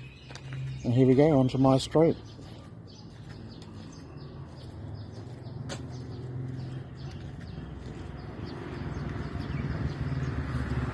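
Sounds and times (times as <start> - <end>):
motor vehicle hum: 0.0 - 10.9
small birds chirping: 0.0 - 10.9.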